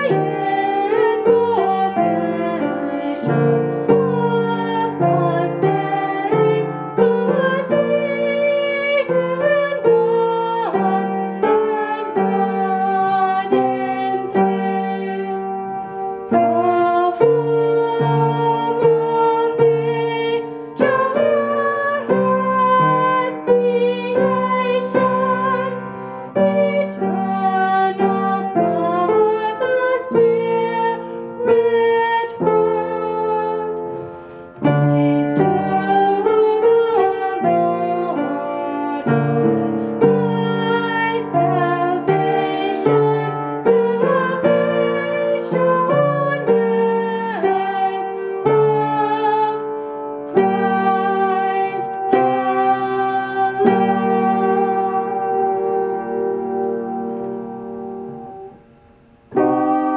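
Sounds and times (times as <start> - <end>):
person singing a hymn: 0.0 - 58.6, 59.3 - 59.9
upright piano chords: 0.0 - 59.9.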